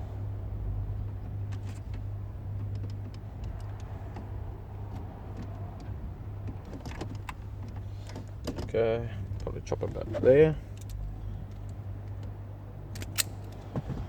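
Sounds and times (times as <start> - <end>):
cable clicks and rustles: 1.0 - 14.0.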